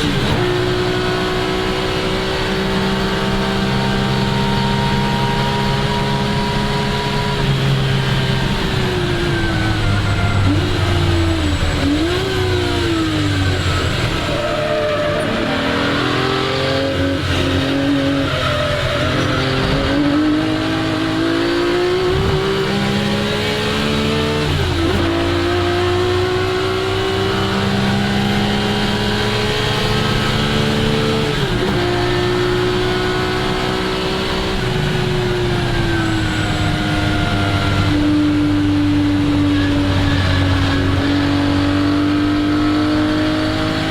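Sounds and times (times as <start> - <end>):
racing car engine accelerating: 0.0 - 43.9.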